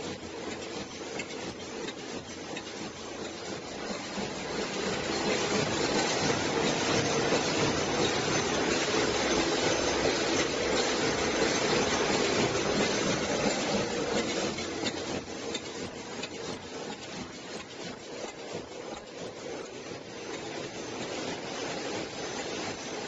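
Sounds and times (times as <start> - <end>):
machine clattering: 0.0 - 23.0.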